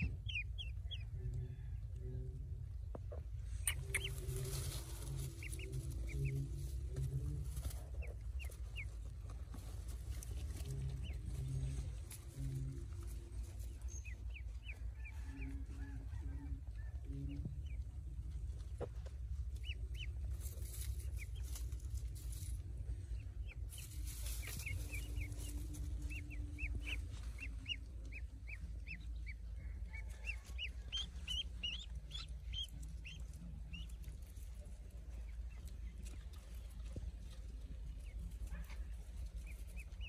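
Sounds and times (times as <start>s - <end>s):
ducklings peeping: 0.0s - 40.0s
steady low rumble: 0.0s - 40.0s
rustling in straw: 3.5s - 40.0s.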